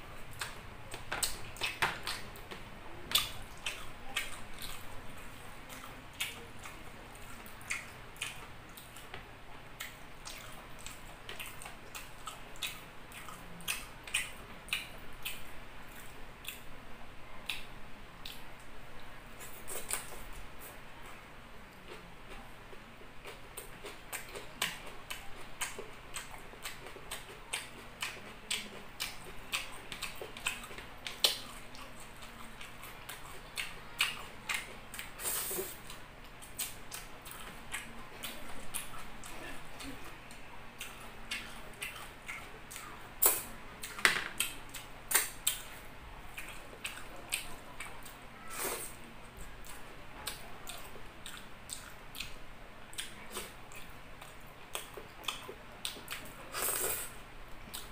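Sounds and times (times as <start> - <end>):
wet chewing: 0.3 - 9.2, 9.8 - 16.7, 23.2 - 57.1.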